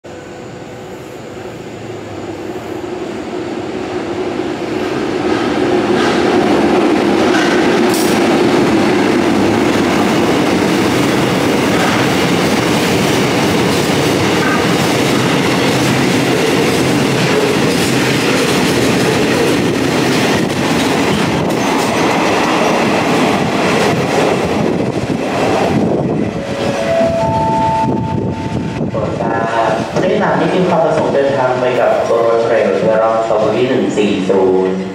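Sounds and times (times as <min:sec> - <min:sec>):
freight train rumbling: 0:00.0 - 0:34.9.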